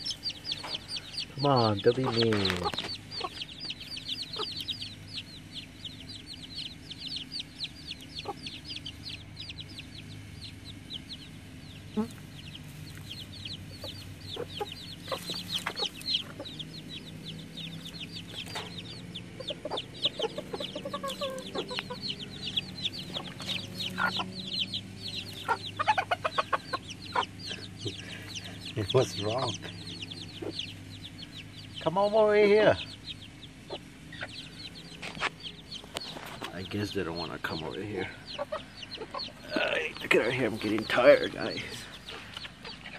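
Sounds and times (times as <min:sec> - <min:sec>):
chicks peeping: 0:00.0 - 0:42.9
hens clucking: 0:00.0 - 0:42.9
steady low hum: 0:00.0 - 0:42.9.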